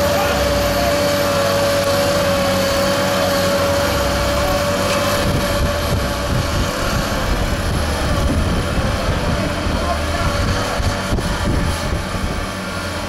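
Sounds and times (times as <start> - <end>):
tractor diesel engines running: 0.0 - 13.0.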